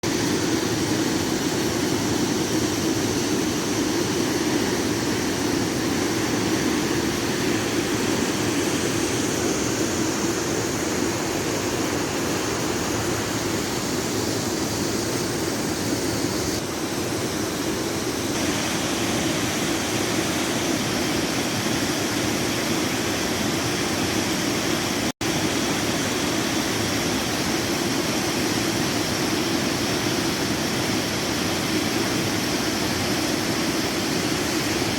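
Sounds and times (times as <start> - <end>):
steady rushing noise: 0.0 - 34.9.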